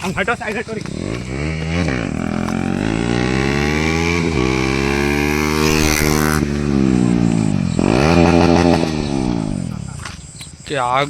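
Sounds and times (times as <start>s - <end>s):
motorcycle engine accelerating: 0.0s - 10.4s.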